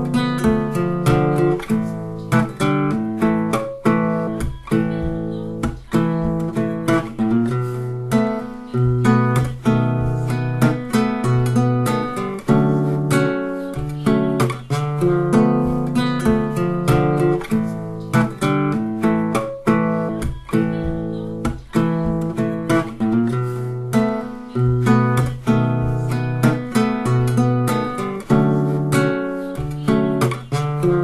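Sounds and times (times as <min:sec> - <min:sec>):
strummed acoustic guitar: 0:00.0 - 0:31.0.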